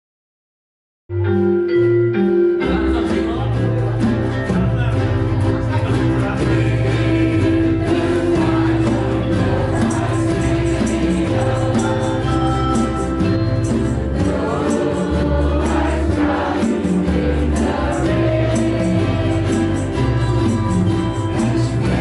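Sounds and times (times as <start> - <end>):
keyboard: 1.1 - 22.0
ukulele ensemble: 1.1 - 22.0
drums: 2.6 - 22.0.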